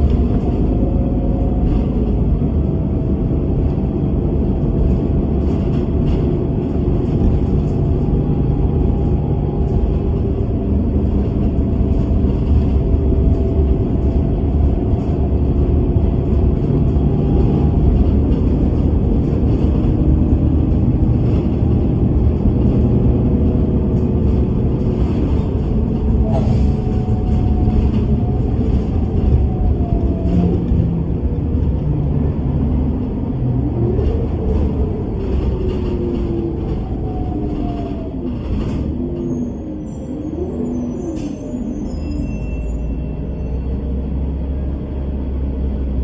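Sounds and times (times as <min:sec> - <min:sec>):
bus engine and road rumble: 0:00.0 - 0:46.0
drivetrain whine: 0:00.0 - 0:46.0.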